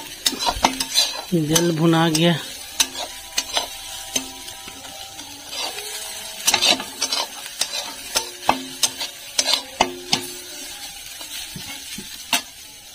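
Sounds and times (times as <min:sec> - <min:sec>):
spoon striking pan with ring: 0:00.0 - 0:12.7
metal spoon scraping a pan: 0:00.0 - 0:12.9.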